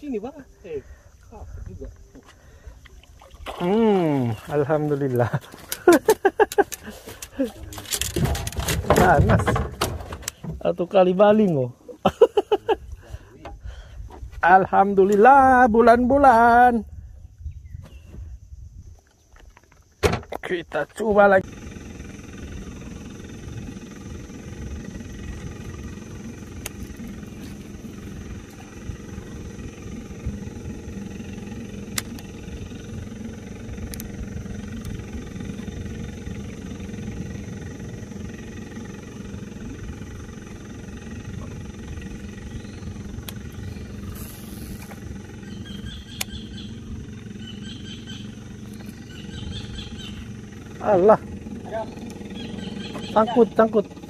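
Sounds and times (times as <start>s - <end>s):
boat engine rumble: 0.0s - 54.0s.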